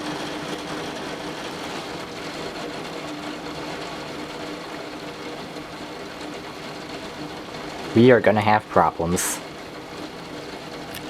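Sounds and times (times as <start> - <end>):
torrential rain: 0.0 - 11.0.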